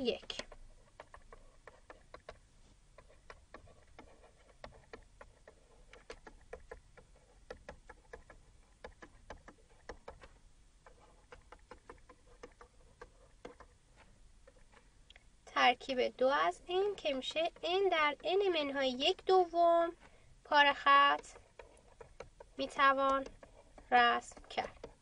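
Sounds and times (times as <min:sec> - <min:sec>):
stylus tapping graphics tablet: 0:00.0 - 0:25.0.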